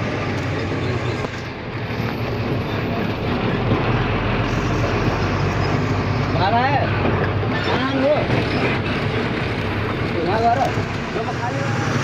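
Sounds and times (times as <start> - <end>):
truck engine and tyre noise: 0.0 - 12.0.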